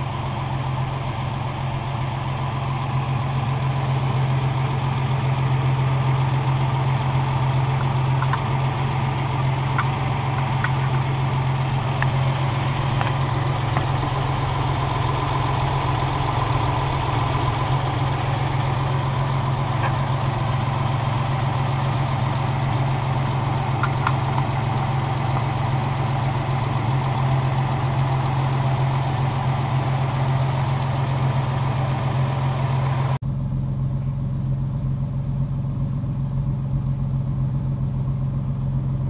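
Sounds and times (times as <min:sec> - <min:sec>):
car engine idling: 0:00.0 - 0:33.2.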